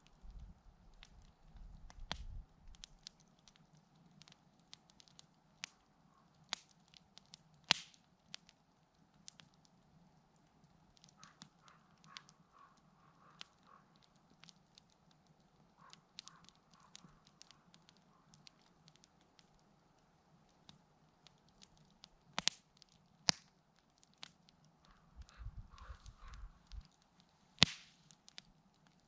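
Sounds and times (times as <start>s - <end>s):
campfire crackling: 0.0s - 29.0s
sharp fire snaps: 0.0s - 29.0s.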